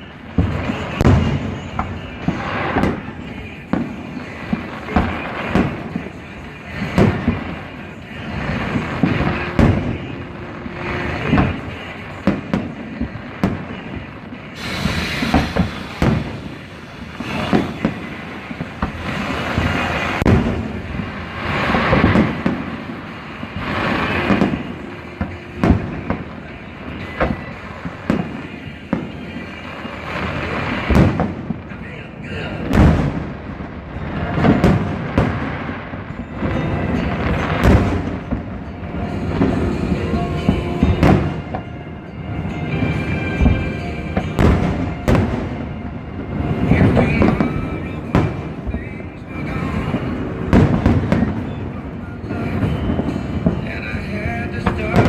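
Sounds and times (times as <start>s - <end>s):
fireworks bangs and booms: 0.0s - 55.0s
fireworks crackling hiss: 0.0s - 55.0s.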